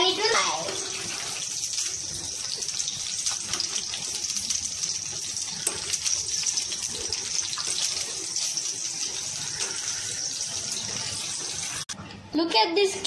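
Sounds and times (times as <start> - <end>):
nuts sizzling in hot fat: 0.0 - 12.0.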